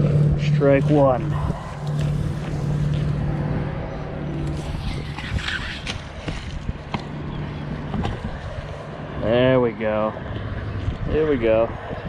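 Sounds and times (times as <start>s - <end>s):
low motor-like hum: 0.0s - 12.0s.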